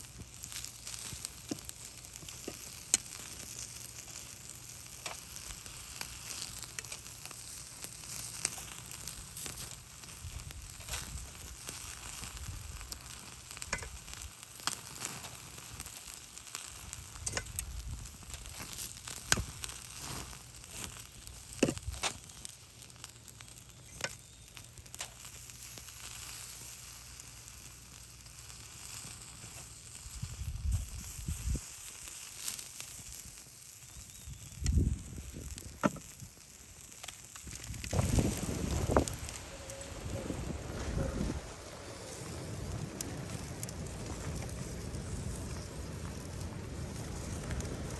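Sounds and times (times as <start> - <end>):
crackles and pops: 0.0 - 47.9
food sizzling on grill: 0.0 - 47.9.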